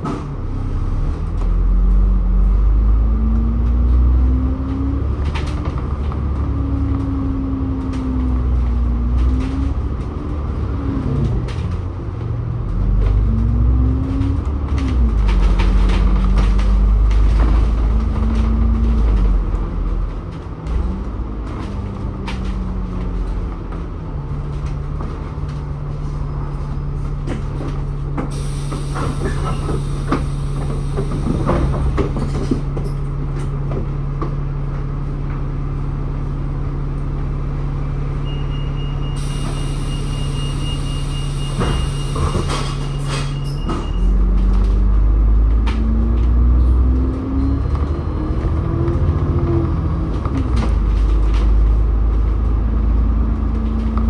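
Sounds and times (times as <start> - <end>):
bus engine: 0.0 - 54.0.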